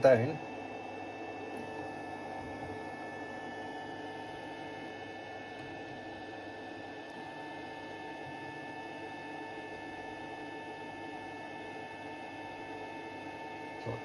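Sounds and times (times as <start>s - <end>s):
stepper motor humming and whining: 0.0s - 14.0s.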